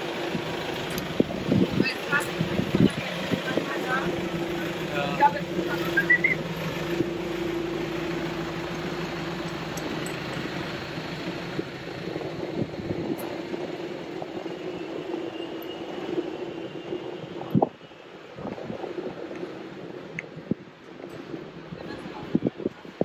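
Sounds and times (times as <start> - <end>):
city street traffic hum: 0.0 - 23.0.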